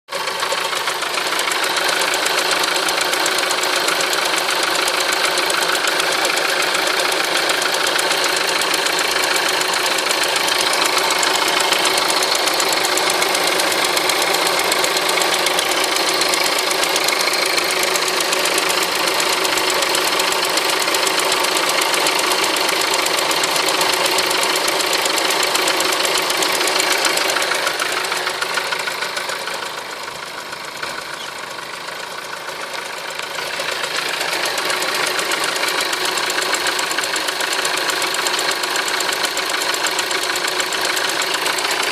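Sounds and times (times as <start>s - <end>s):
car engine idling: 0.1s - 41.9s
fast even engine ticking: 0.1s - 41.9s.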